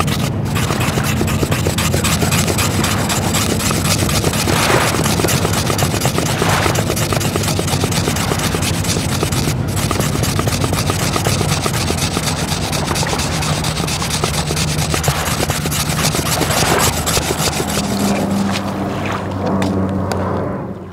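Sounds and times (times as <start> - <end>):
stick scraping against wood: 0.0 - 18.8
steady low hum: 0.0 - 20.9.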